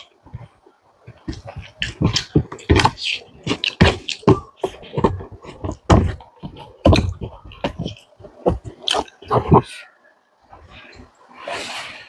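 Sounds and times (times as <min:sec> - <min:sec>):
person chewing food: 0:00.0 - 0:09.7.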